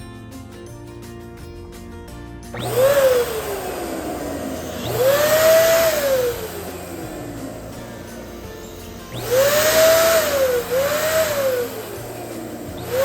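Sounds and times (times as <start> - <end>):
balloon inflator air rush and whine: 2.6 - 13.0.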